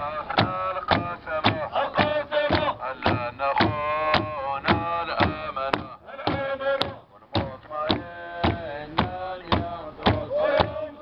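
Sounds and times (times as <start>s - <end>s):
steady drum beat: 0.3s - 10.8s.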